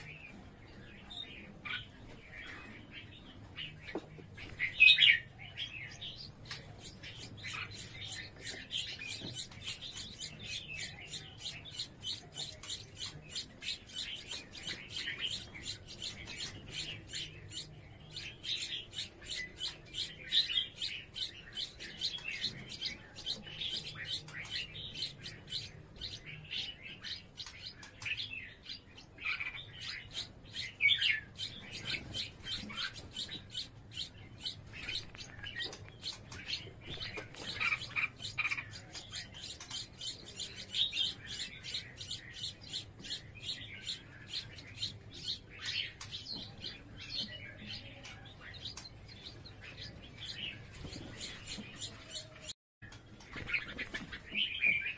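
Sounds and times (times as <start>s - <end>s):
nestlings begging chirps: 0.0s - 52.5s, 53.2s - 54.9s.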